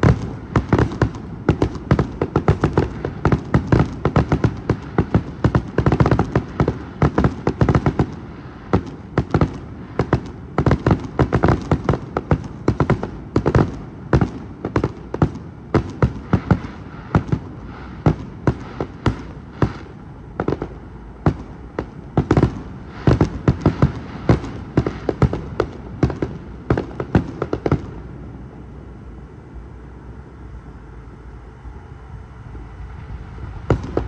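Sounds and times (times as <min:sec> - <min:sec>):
fireworks banging: 0:00.0 - 0:28.2, 0:32.9 - 0:34.0
steady low rumble: 0:00.0 - 0:34.0.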